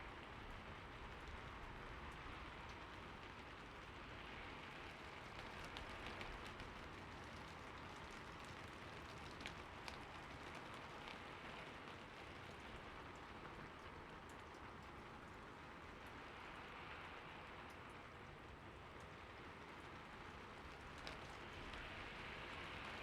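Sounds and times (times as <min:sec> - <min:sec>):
light rain hiss: 0:00.0 - 0:23.0.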